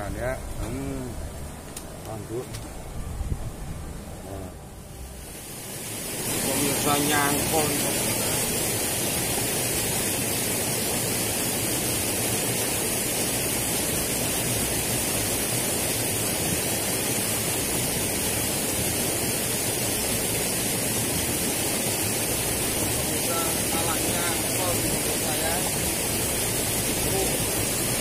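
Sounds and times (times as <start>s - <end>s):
fast-flowing water rushing: 4.9s - 28.0s.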